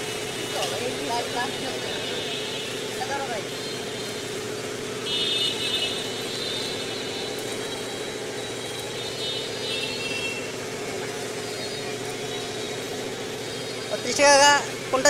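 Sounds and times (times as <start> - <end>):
street traffic noise: 0.0 - 15.0
vehicle engine running nearby: 0.0 - 15.0.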